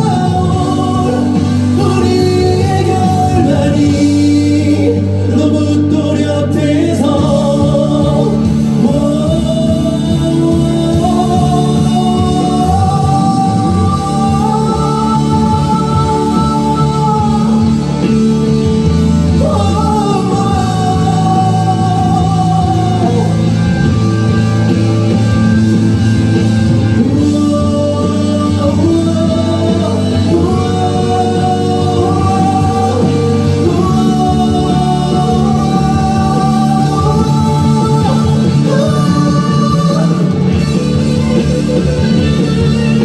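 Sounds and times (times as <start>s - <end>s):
chordal band backing: 0.0s - 43.0s
sliding lead notes: 0.0s - 43.0s.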